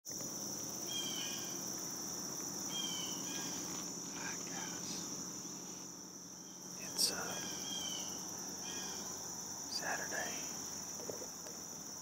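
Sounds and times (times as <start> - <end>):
insects chorus: 0.1 - 12.0.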